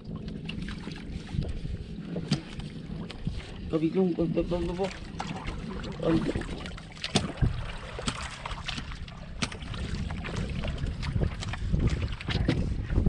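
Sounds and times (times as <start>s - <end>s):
knocks and clicks on hull: 0.0s - 3.6s, 4.6s - 13.0s
wind rumbling on microphone: 0.0s - 13.0s.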